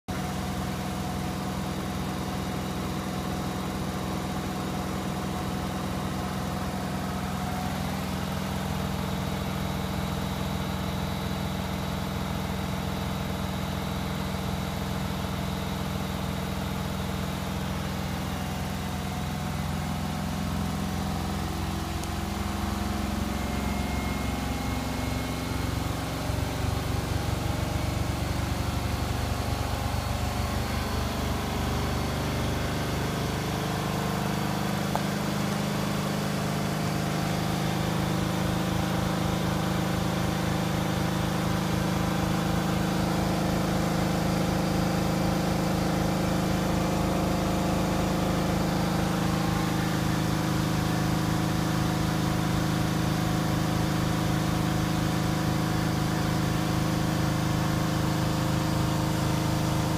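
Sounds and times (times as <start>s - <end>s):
washing machine spin cycle: 0.1s - 59.9s.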